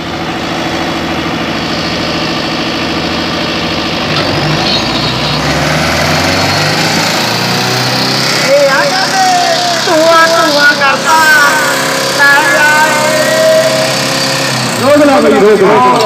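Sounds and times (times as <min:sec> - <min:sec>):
tractor diesel engines labouring: 0:00.0 - 0:16.0.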